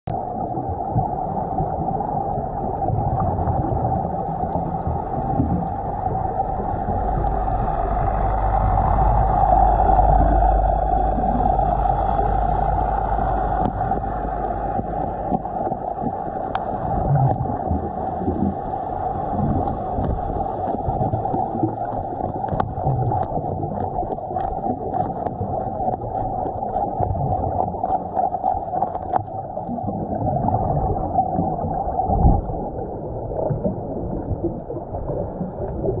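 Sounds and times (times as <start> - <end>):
sharp clicks underwater: 0.1 - 36.0
underwater rush of water: 0.1 - 36.0.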